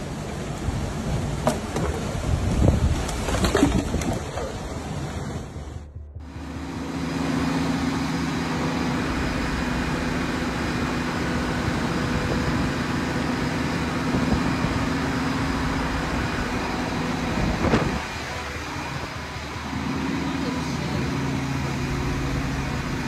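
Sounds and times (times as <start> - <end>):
hurricane wind and floodwater rushing: 0.0 - 23.0
low hum: 0.0 - 23.0.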